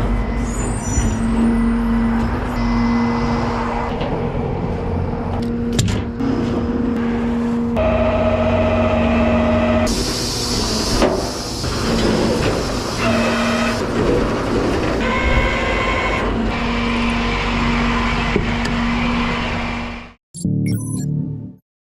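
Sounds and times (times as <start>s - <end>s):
tow truck engine drone: 0.0s - 20.2s.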